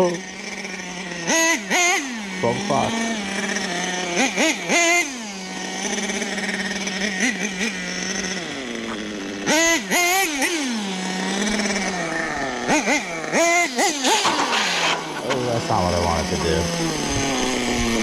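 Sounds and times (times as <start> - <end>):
rc truck engine revving: 0.0 - 18.0.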